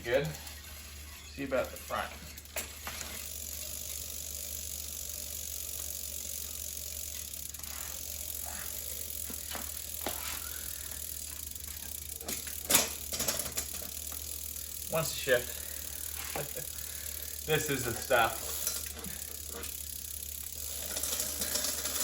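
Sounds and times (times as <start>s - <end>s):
bicycle chain hissing over sprockets: 0.0s - 22.0s
derailleur clicks: 0.0s - 22.0s.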